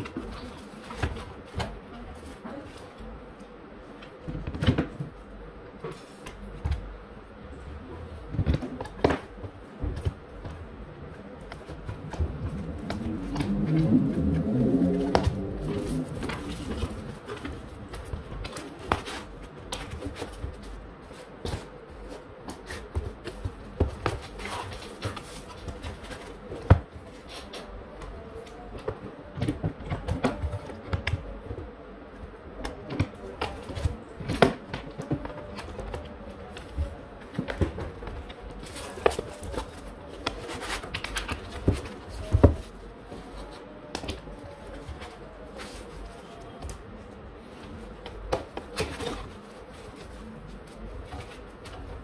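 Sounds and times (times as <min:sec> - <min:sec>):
cardboard boxes being handled: 0:08.0 - 0:52.0.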